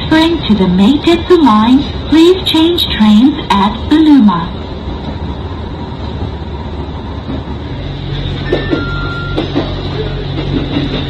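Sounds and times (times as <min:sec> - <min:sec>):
railcar rumble from wheels and engine: 0:00.0 - 0:11.0.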